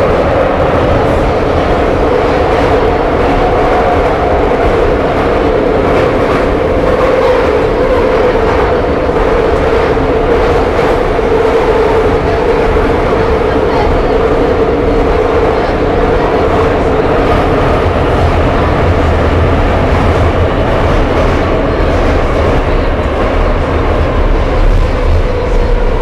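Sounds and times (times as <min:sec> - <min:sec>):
metro car rumble and rattle: 0:00.0 - 0:26.0.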